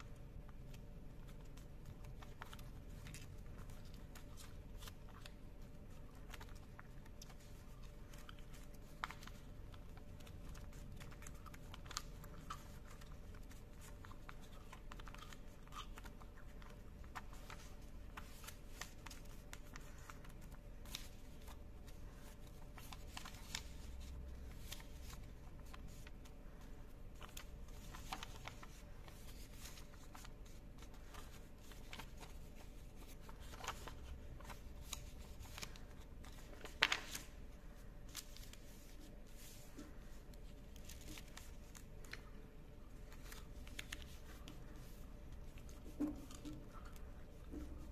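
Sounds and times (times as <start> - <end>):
paper rustling and crinkling: 0.0 - 47.9.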